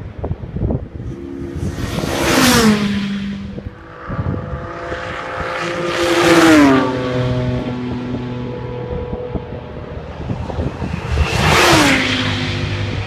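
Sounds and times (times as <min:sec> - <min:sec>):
race cars passing at speed: 0:00.0 - 0:13.0.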